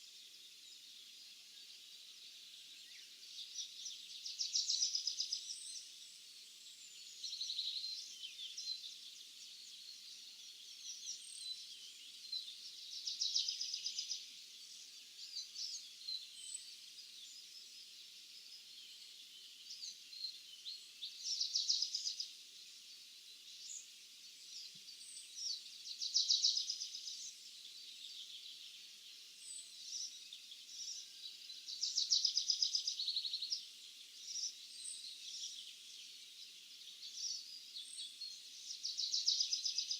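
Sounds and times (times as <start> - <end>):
faint bird chirps: 0.0 - 39.9.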